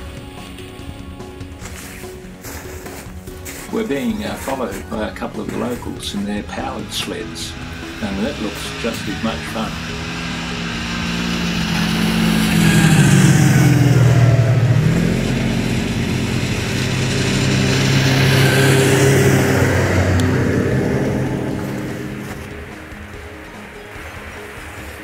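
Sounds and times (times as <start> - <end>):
snowmobiles passing: 0.0 - 25.0.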